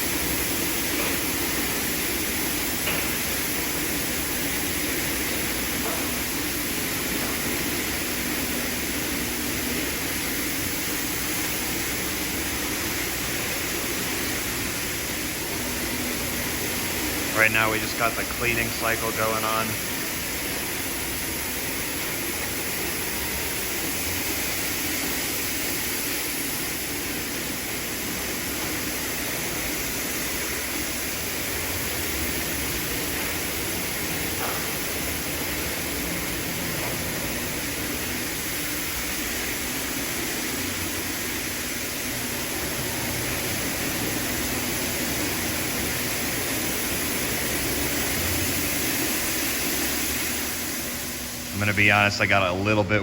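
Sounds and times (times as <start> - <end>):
car wash water spray hissing: 0.0 - 52.7.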